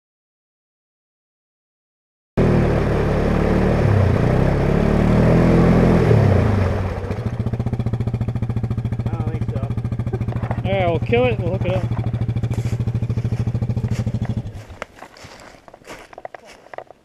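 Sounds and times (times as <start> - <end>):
atv engine revving: 2.4 - 16.5.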